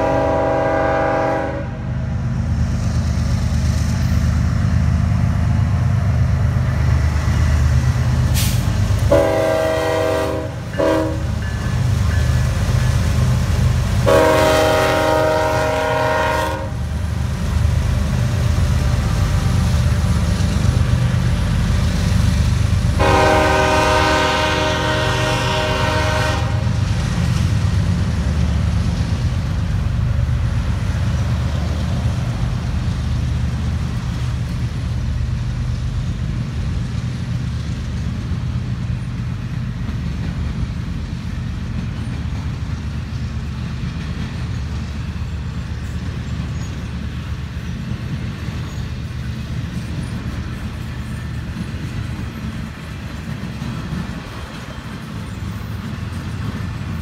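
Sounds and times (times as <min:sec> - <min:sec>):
locomotive engine drone: 0:00.0 - 0:57.0
train wheels rumbling on rails: 0:00.0 - 0:57.0.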